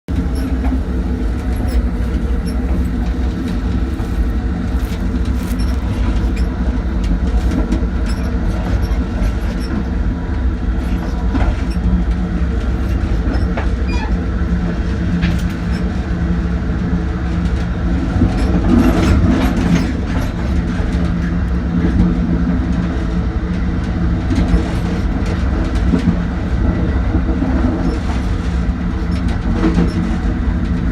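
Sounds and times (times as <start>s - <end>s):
train rumbling with low hum: 0.0s - 30.9s
train wheels clicking and knocking: 0.1s - 15.9s, 17.4s - 30.9s.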